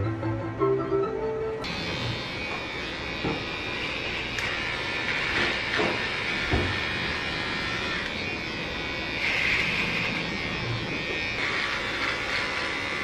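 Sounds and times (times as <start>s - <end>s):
electric hair clippers buzzing: 1.6s - 13.0s.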